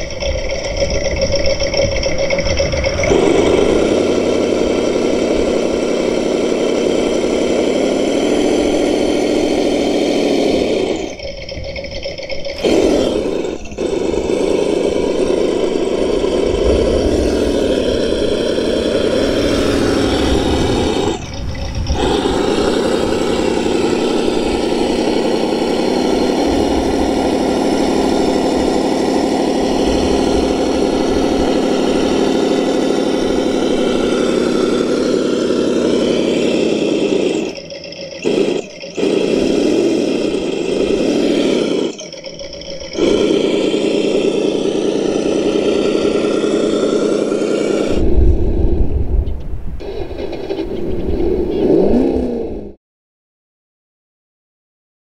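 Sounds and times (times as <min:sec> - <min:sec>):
simulated engine sound from speaker: 0:00.0 - 0:52.8.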